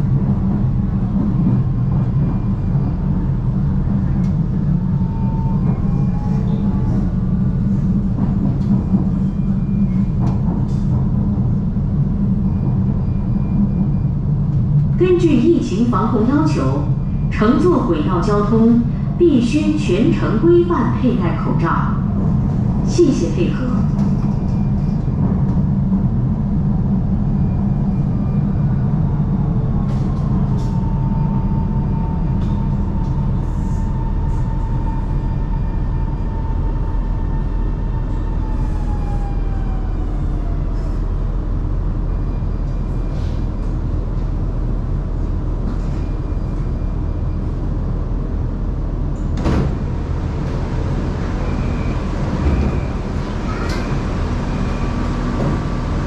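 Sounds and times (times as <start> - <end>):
train low hum: 0.0 - 56.0.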